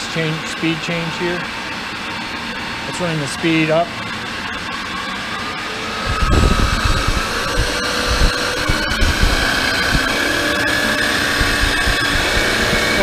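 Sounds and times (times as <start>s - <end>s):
band saw motor whining: 0.0s - 13.0s.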